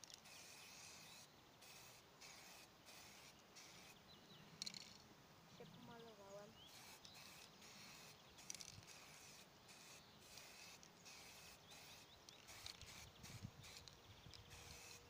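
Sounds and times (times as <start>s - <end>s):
spray can hissing: 0.1s - 4.0s, 6.7s - 15.0s.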